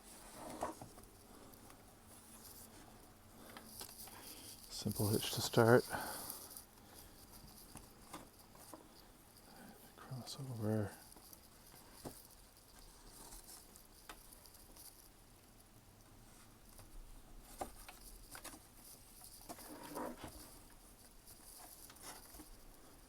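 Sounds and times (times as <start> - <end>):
cord rustling through wood: 0.0 - 15.2, 16.2 - 23.0.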